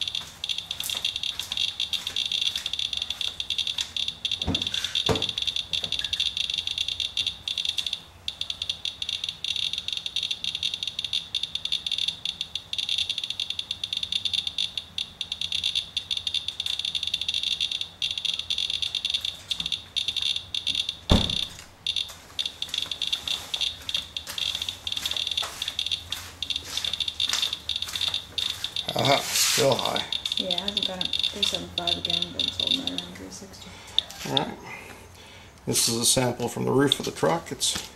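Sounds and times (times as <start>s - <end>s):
geiger counter clicking: 0.0s - 33.3s, 33.9s - 34.5s, 36.8s - 37.3s.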